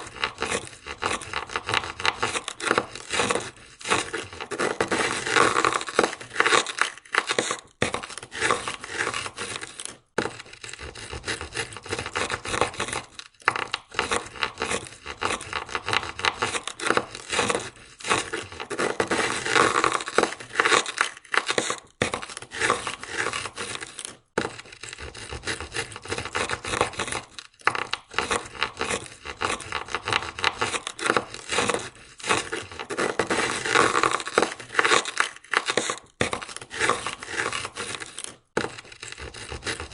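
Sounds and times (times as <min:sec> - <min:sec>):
ice scraper scraping car window: 0:00.0 - 0:39.9.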